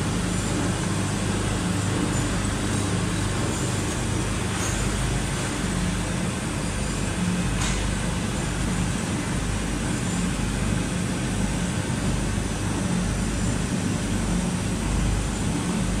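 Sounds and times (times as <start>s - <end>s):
machine mechanical drone: 0.0s - 16.0s.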